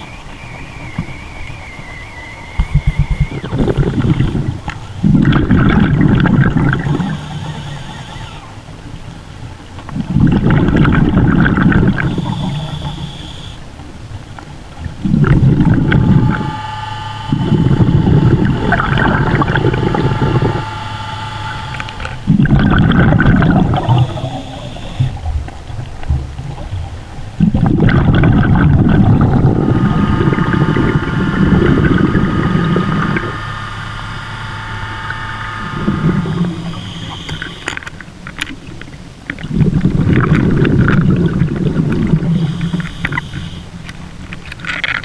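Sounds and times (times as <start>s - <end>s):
exhaled bubbles underwater: 0.0s - 9.1s, 9.9s - 13.5s, 14.7s - 16.7s, 17.3s - 34.0s, 35.6s - 37.8s, 38.7s - 43.6s.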